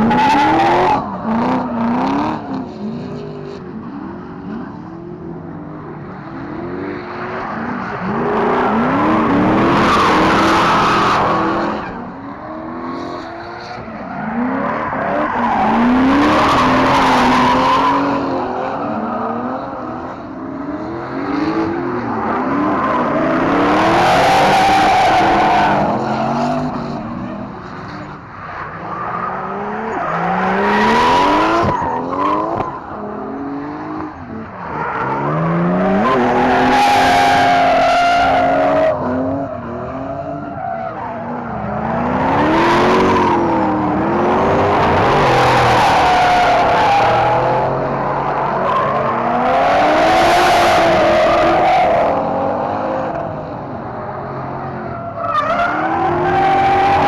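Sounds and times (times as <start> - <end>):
car engines revving hard: 0.0 - 57.0.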